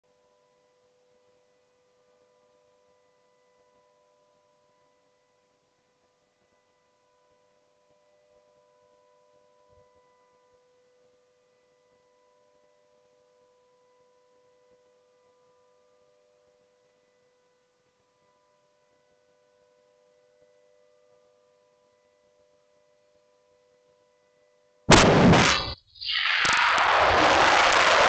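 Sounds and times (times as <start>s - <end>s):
faint electronic hum: 0.0s - 28.0s.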